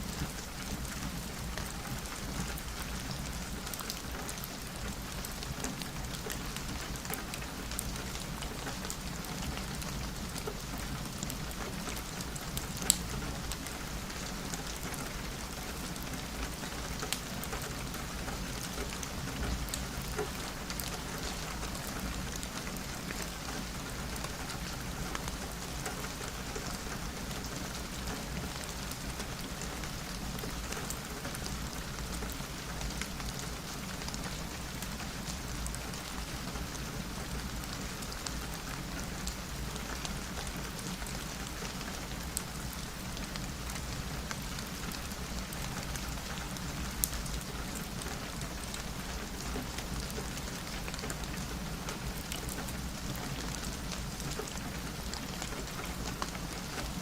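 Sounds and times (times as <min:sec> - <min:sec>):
rain pattering on window: 0:00.0 - 0:57.0.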